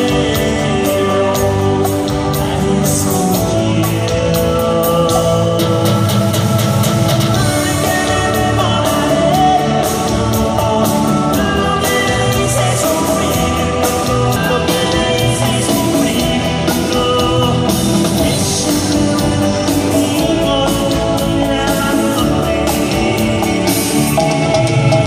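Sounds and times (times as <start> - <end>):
electric guitar: 0.0 - 25.0
keyboards: 0.0 - 25.0.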